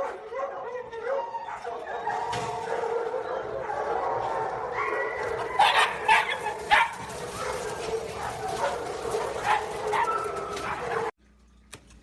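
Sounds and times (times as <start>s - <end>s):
dog yipping and barking: 0.0s - 11.1s.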